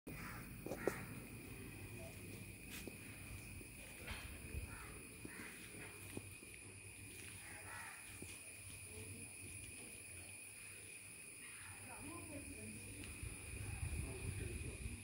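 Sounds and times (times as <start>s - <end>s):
high-pitched insect trill: 0.1s - 15.0s.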